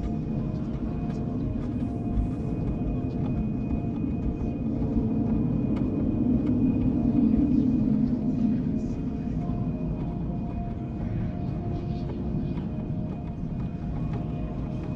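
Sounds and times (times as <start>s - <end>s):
held drone tones: 0.0s - 14.9s.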